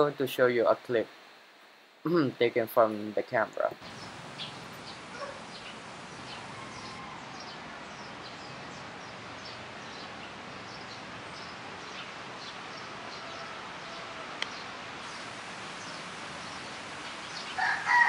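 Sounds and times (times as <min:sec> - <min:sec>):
steady microphone hiss: 0:00.0 - 0:18.0
small birds chirping: 0:02.4 - 0:18.0.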